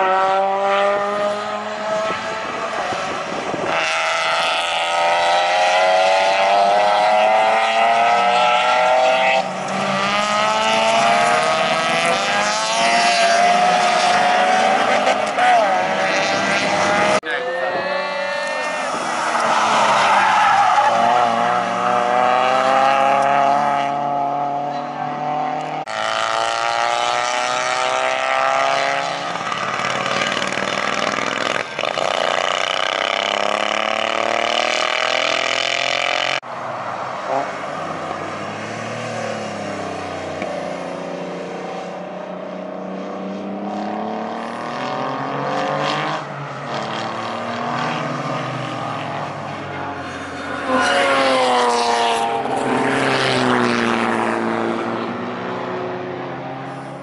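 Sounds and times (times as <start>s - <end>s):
racing car engines passing: 0.0s - 57.0s.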